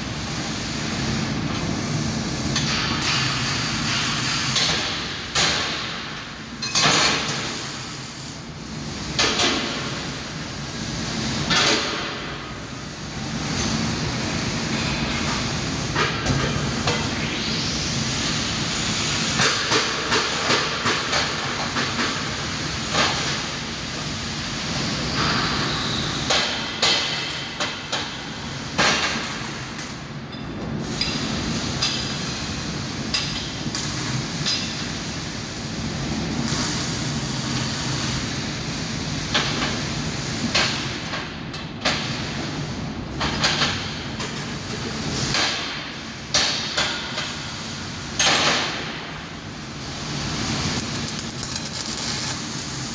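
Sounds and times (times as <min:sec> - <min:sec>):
factory hiss and hum: 0:00.0 - 0:52.9.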